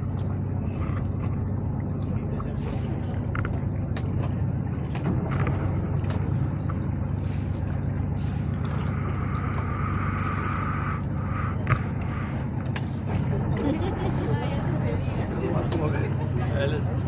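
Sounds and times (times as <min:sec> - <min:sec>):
boat engine droning: 0:00.0 - 0:17.0
high steady whine: 0:00.0 - 0:17.0.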